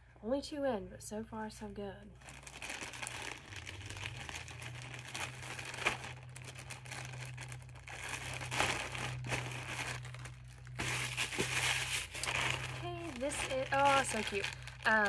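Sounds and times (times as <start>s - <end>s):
plastic packaging crinkling: 2.2s - 15.0s.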